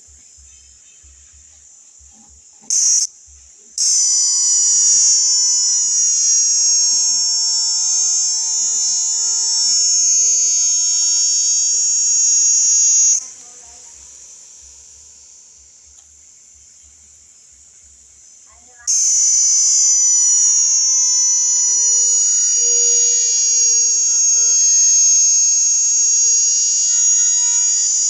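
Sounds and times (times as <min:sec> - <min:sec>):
cicada buzzing: 0:00.0 - 0:28.0.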